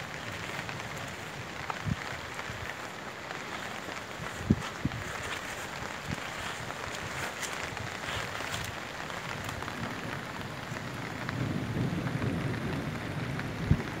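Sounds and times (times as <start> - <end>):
rain: 0.0 - 14.0
water rushing down dirt road: 0.0 - 14.0.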